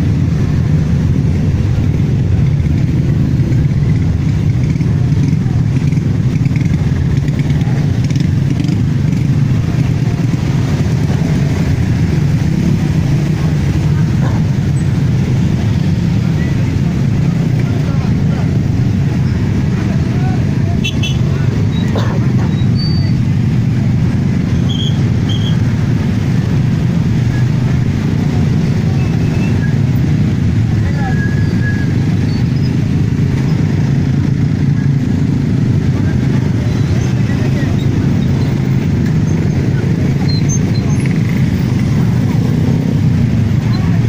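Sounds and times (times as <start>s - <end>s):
motorcycle engines in traffic: 0.0s - 44.0s.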